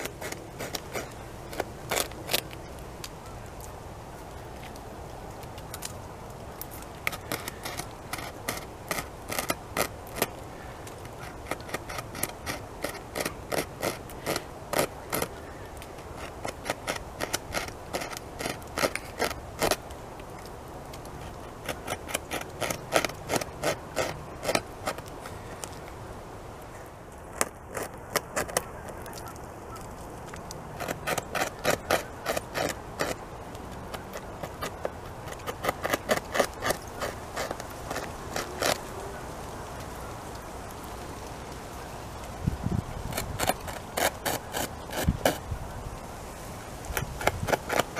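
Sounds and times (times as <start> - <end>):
beaver gnawing wood: 0.0 - 26.0, 26.6 - 40.4, 42.7 - 45.6, 46.7 - 47.9.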